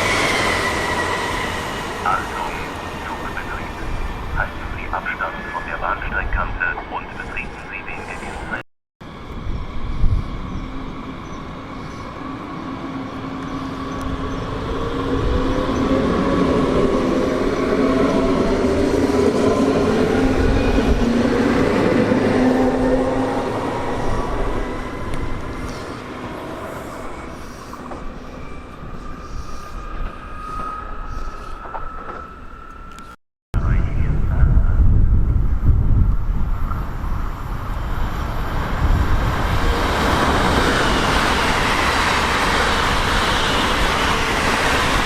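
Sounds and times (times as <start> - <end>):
train passing: 0.0 - 45.0.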